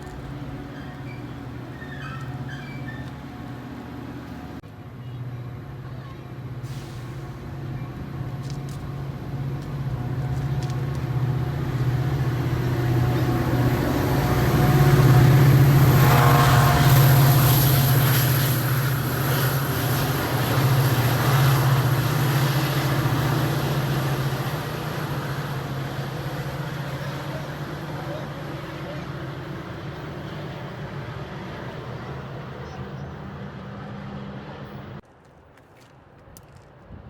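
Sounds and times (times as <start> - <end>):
train passing: 0.0 - 35.0.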